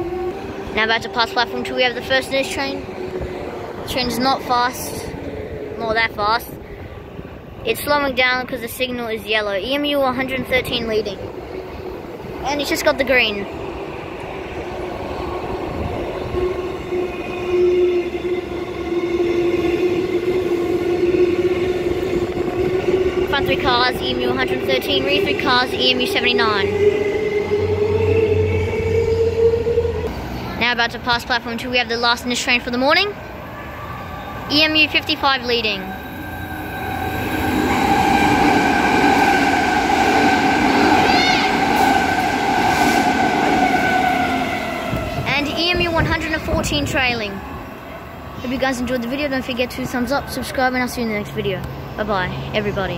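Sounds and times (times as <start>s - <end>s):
train wheel and rail rumble: 0.0s - 52.9s.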